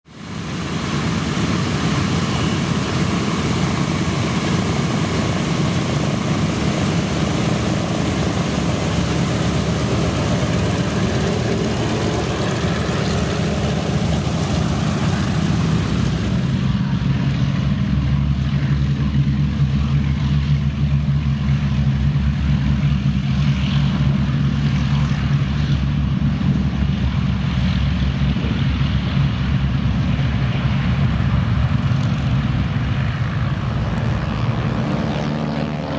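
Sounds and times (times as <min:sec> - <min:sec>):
aircraft radial engines droning: 0:00.1 - 0:35.9.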